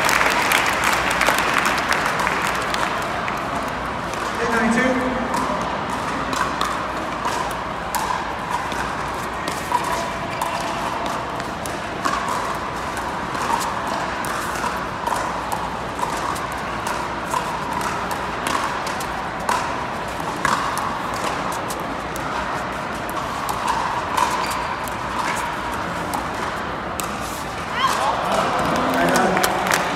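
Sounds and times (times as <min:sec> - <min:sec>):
indoor hall background noise: 0:00.0 - 0:29.9.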